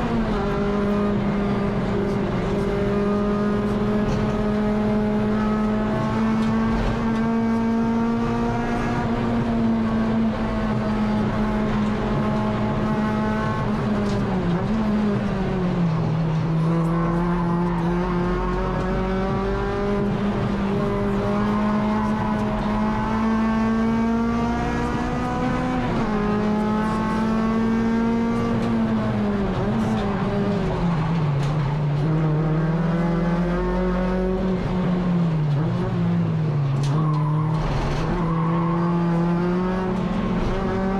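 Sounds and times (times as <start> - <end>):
race car engine at high revs: 0.0 - 40.9.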